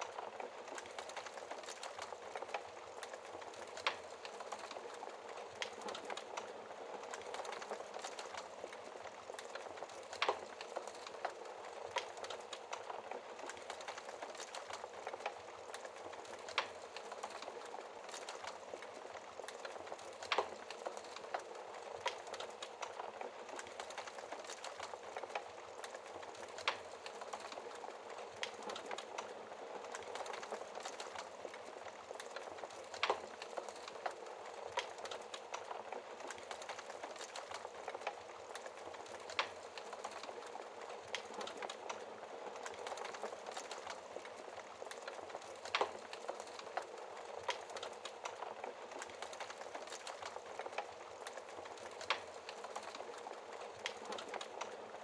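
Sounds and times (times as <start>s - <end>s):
fire crackles and pops: 0.0s - 55.0s
hiss of burning fire: 0.1s - 55.0s.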